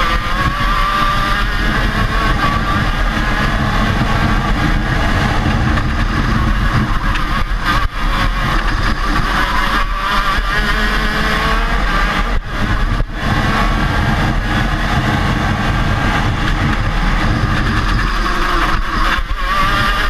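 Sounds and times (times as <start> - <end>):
kart engine running hard: 0.0 - 20.0.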